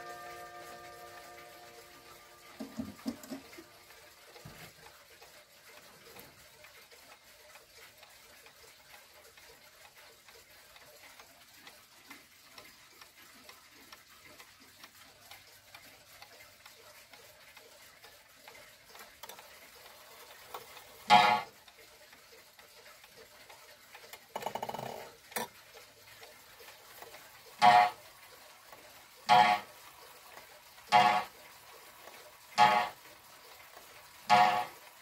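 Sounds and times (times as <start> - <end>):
pendulum clock ticking: 0.0 - 35.0.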